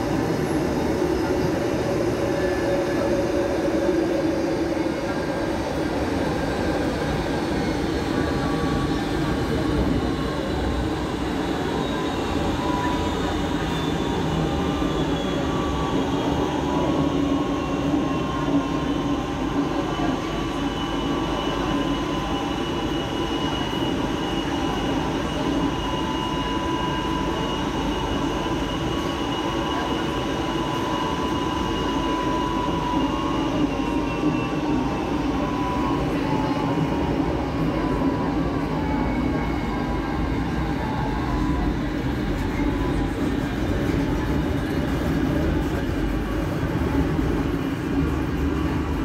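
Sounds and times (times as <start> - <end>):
faint high whine: 0.0 - 48.7
train wheels rumbling on rail: 0.0 - 49.0.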